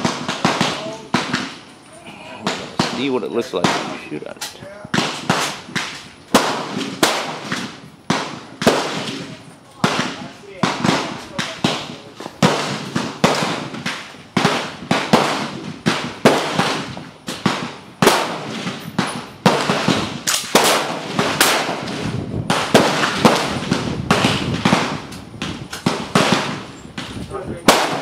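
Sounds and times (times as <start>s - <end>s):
rifle shots echoing: 0.0s - 1.7s, 2.4s - 4.2s, 4.9s - 28.0s.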